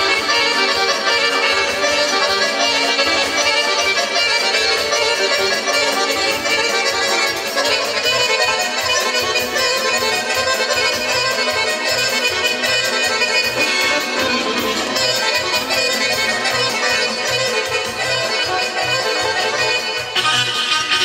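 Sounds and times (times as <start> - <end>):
dance music with accordion melody: 0.0 - 21.0.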